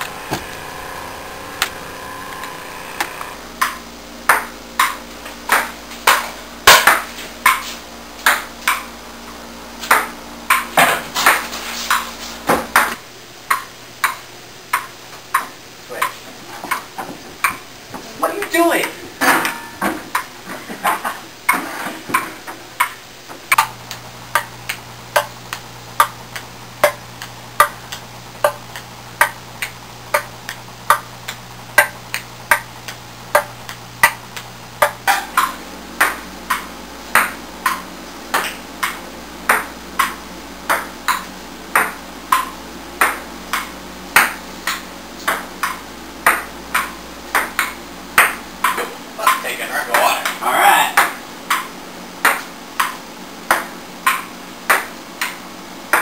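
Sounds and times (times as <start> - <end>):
ping pong ball hitting paddles and table: 1.6 - 8.9, 9.8 - 17.6, 18.2 - 56.0.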